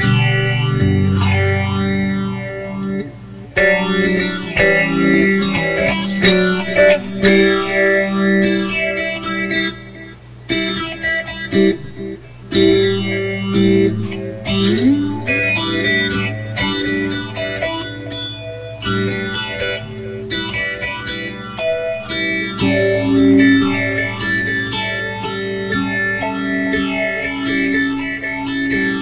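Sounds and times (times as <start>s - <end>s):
electric guitar playing: 0.0s - 29.0s.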